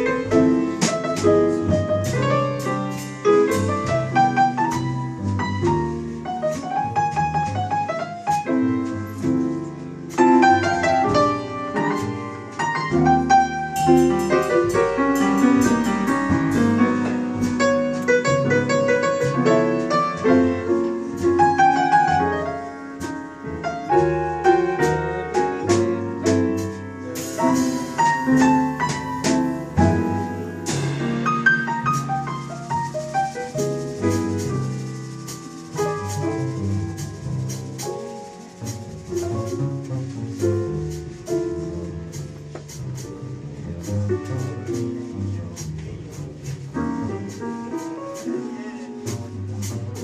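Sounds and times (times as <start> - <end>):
bass: 0.0 - 50.0
drums with cymbal strokes: 0.1 - 7.7, 8.3 - 19.9, 24.8 - 50.0.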